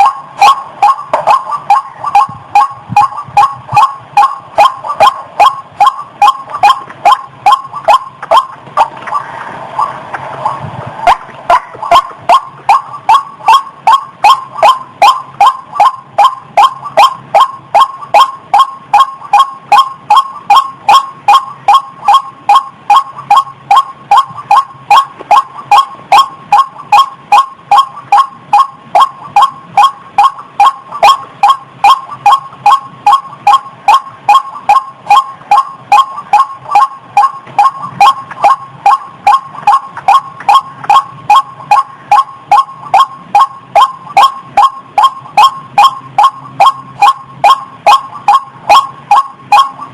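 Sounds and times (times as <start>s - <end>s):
rail bird calling: 0.0s - 49.9s.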